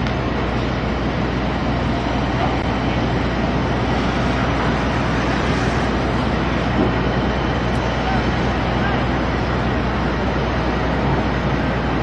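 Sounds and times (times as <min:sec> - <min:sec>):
wheel loader diesel engine idling: 0:00.1 - 0:12.0.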